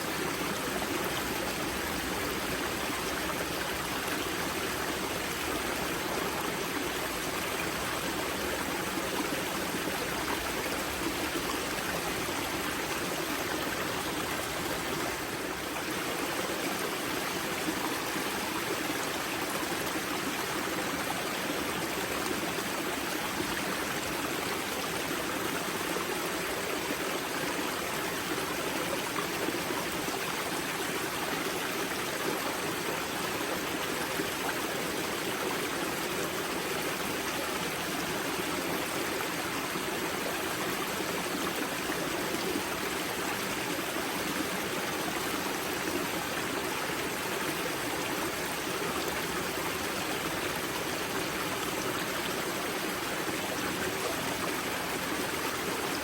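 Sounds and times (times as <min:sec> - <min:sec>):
stream burbling over stones: 0:00.0 - 0:56.0.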